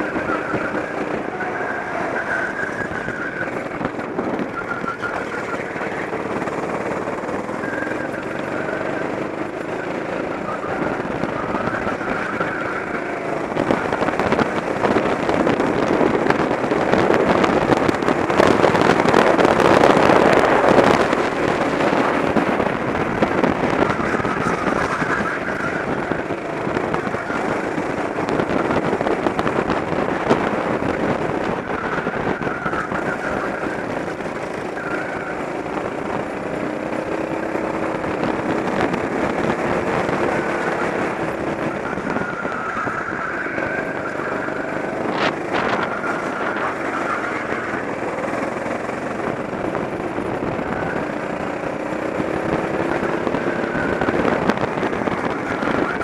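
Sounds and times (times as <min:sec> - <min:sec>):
go-kart engine racing: 0:00.0 - 0:56.0
wind noise on microphone: 0:00.0 - 0:56.0.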